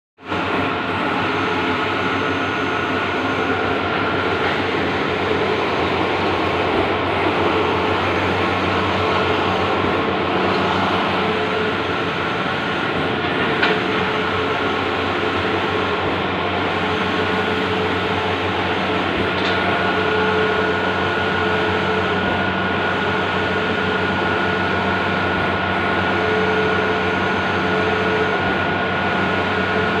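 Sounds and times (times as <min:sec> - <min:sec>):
printer whirring: 0:00.2 - 0:30.0.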